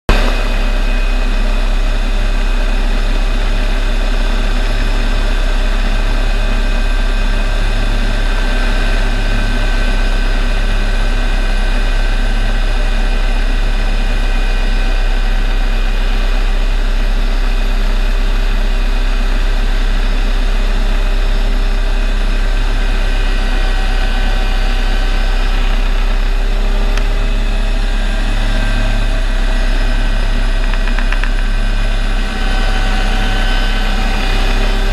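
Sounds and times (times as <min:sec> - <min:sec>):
helicopter rotor and engine drone: 0:00.1 - 0:34.9.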